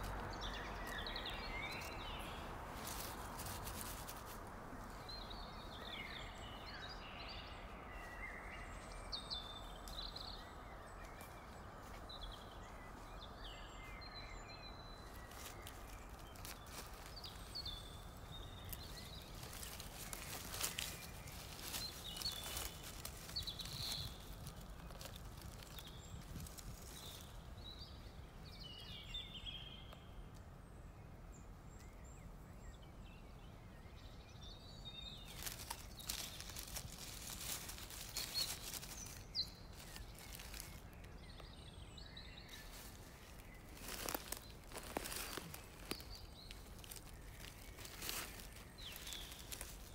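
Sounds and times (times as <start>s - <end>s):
dry leaves and twigs rustling: 0.0s - 29.6s, 33.8s - 49.9s.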